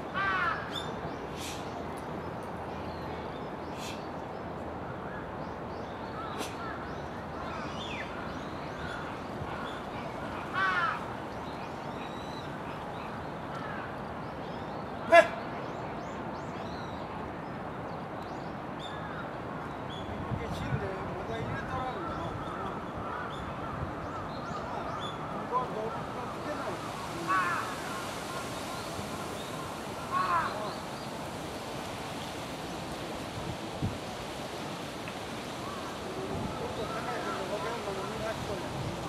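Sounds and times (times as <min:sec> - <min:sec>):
birds calling: 0:00.0 - 0:39.0
outdoor background noise: 0:00.0 - 0:39.0.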